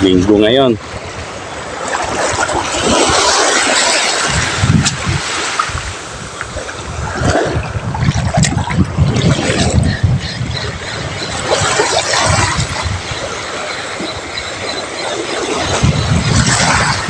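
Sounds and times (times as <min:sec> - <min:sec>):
waves washing on shore: 0:00.0 - 0:17.0
wind buffeting microphone: 0:00.0 - 0:17.0.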